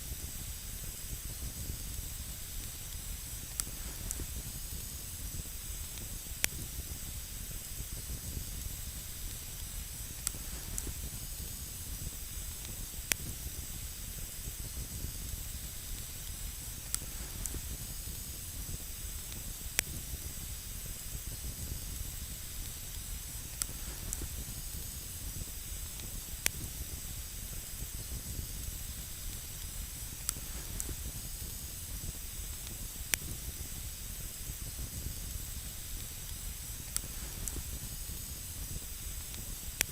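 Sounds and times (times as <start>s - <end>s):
campfire hissing: 0.0s - 39.9s
fire crackling and popping: 0.0s - 39.9s.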